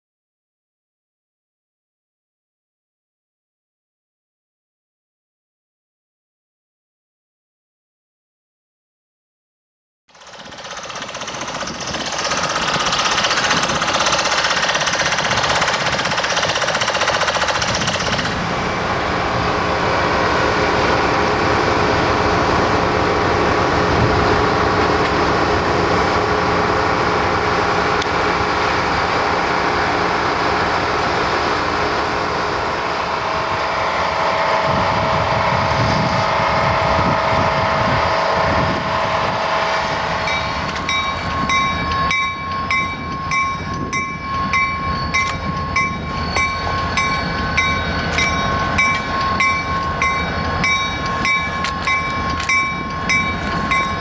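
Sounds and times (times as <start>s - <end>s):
diesel locomotive drone: 10.1s - 54.0s.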